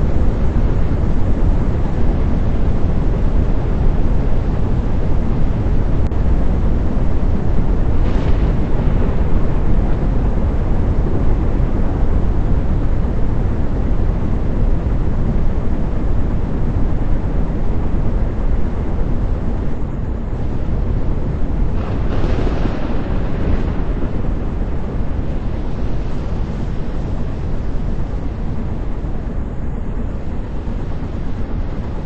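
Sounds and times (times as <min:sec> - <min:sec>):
wind roar and rumble: 0:00.0 - 0:32.0.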